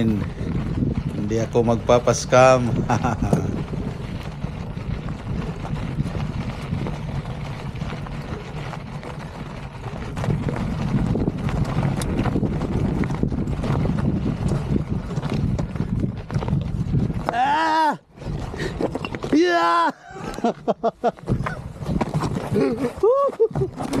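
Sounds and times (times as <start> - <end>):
wind buffeting microphone: 0.0 - 19.4, 20.0 - 24.0
bike rattles and clicks: 0.0 - 24.0
bike tyres crunching on gravel: 0.0 - 24.0.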